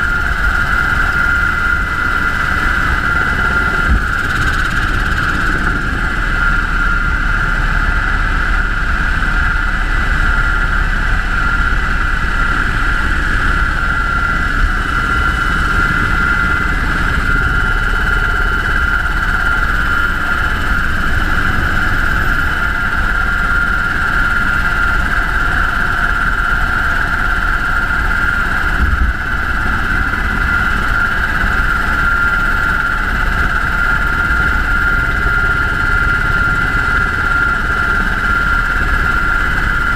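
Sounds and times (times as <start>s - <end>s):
helicopter high whine: 0.0s - 39.9s
helicopter rumble: 0.0s - 39.9s.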